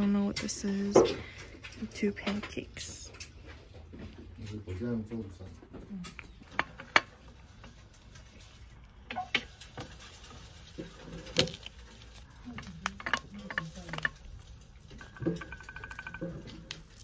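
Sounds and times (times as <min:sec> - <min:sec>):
passion fruit shell crackling: 0:00.0 - 0:17.0.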